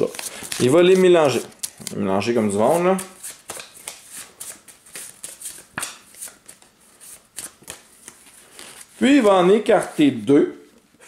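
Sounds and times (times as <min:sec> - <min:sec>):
cards being shuffled: 0:00.0 - 0:10.3.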